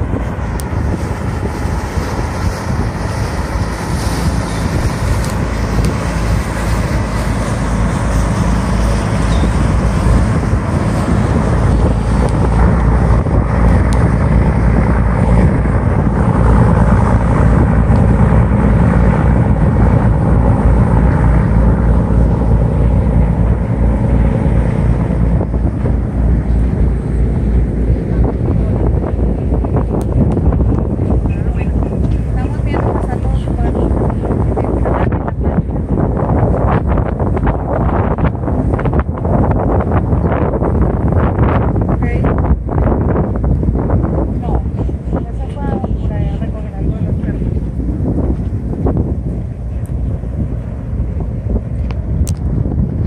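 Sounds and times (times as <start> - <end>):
boat engine rumble: 0.0 - 53.0
boat wake water: 0.0 - 53.0
wind buffeting microphone: 0.0 - 53.0.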